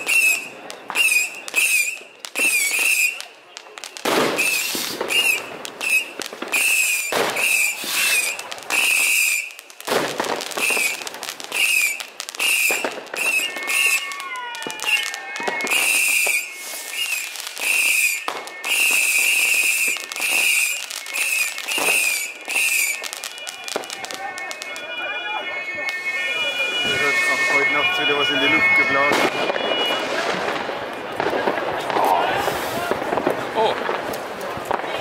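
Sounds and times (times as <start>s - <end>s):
falling whistle: 0.0s - 3.2s, 4.4s - 9.6s, 10.5s - 30.1s
fireworks bangs and crackling: 0.0s - 35.0s.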